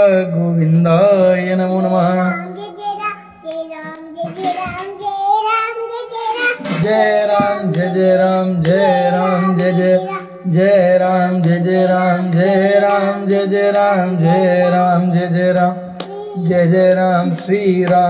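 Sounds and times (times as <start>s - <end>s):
voices singing devotional song: 0.0s - 18.0s.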